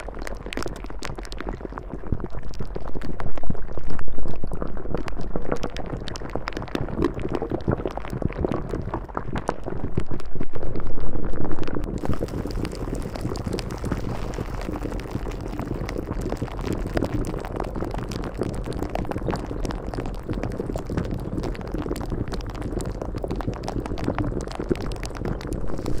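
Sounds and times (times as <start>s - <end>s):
bubbling with small pops: 0.0s - 26.0s.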